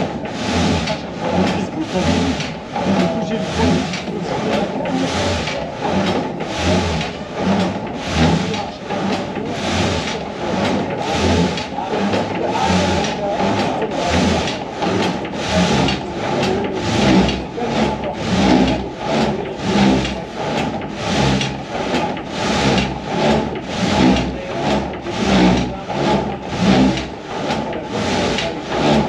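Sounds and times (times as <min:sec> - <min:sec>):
frame saw rasping through wood: 0:00.0 - 0:29.0.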